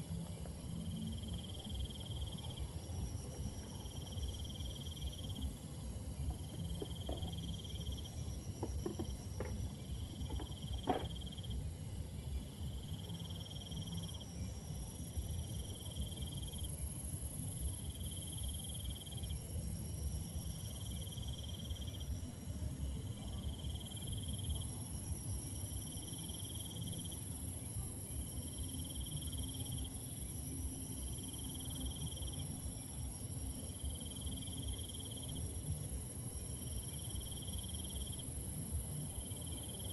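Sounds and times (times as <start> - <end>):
insect pulsed trill: 0.0 - 39.9.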